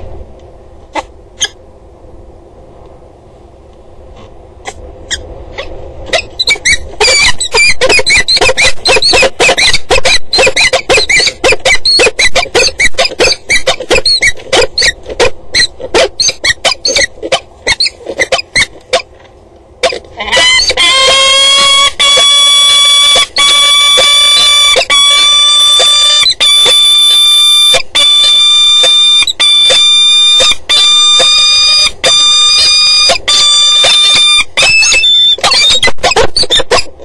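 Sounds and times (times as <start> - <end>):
falcons harsh squealing calls: 4.6 - 19.1, 19.8 - 37.0.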